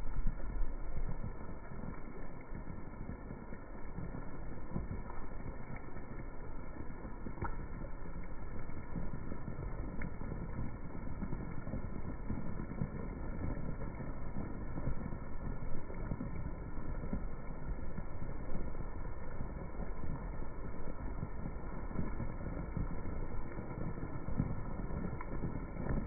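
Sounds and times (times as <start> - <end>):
slowed rain low rumble: 0.0 - 26.0.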